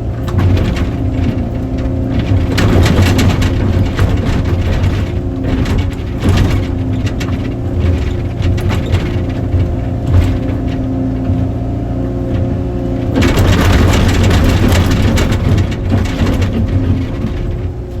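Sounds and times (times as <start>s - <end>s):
clicks and knocks of work: 0.0s - 18.0s
excavator diesel engine running: 0.0s - 18.0s.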